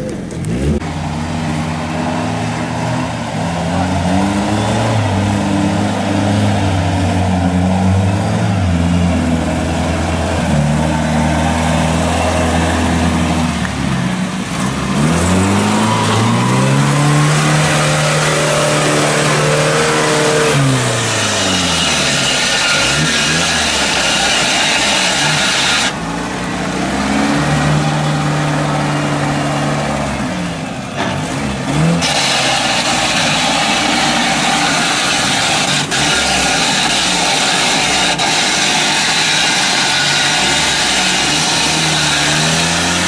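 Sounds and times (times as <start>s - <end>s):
vehicle engine under load: 0.0s - 43.0s.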